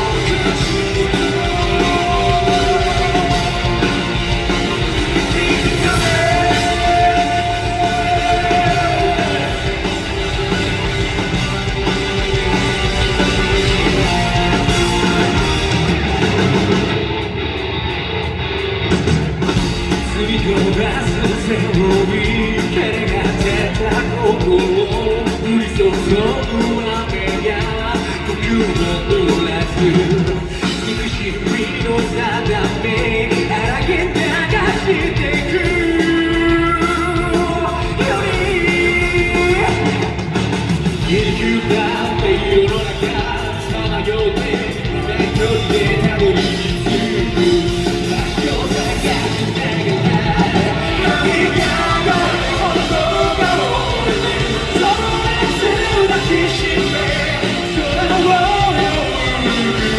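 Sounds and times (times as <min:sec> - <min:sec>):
man singing lead vocals: 0:00.0 - 0:17.2, 0:19.5 - 0:59.9
live rock band playing: 0:00.0 - 0:59.9.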